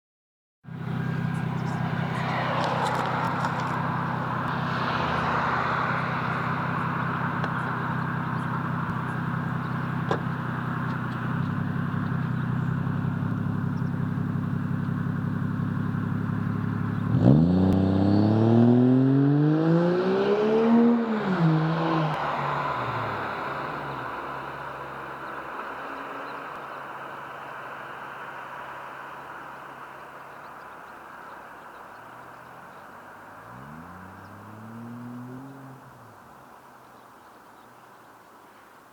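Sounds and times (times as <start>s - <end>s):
car engine idling and revving: 0.7s - 37.9s.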